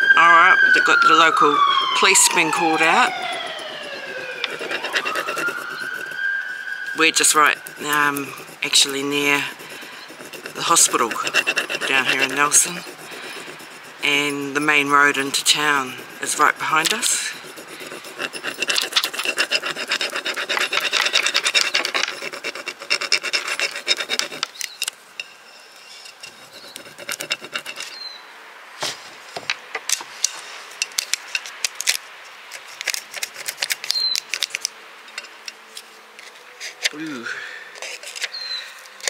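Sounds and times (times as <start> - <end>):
wooden stick scraping: 0.6 - 28.0, 32.5 - 37.1, 37.8 - 39.0.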